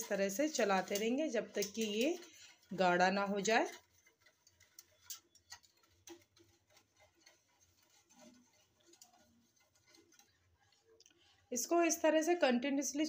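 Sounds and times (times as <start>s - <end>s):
whisk tapping saucepan: 0.0s - 13.0s.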